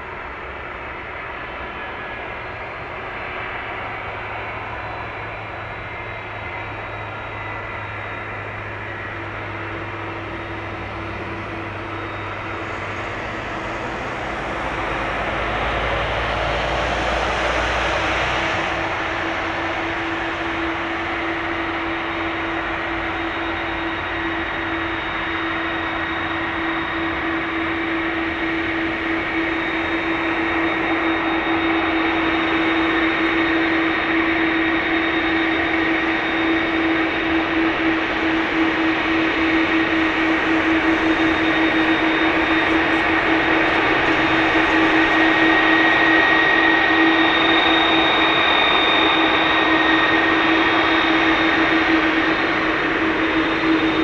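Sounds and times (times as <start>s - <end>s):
jet engine hum with whine: 0.0s - 54.0s.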